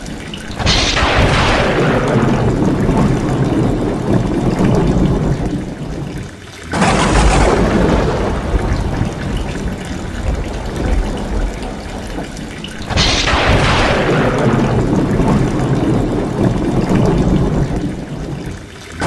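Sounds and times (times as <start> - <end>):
rain falling: 0.0 - 19.0
roof runoff splashing down: 0.0 - 19.0.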